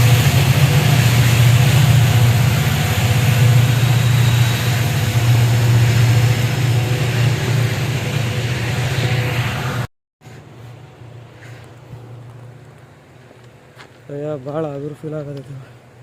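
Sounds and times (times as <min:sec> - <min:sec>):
moving train rumble: 0:00.0 - 0:16.0.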